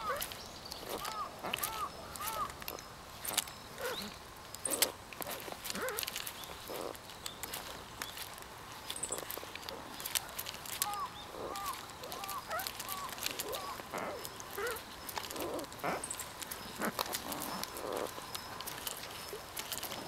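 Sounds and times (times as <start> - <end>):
animal calls: 0.0 - 7.7, 9.0 - 20.0.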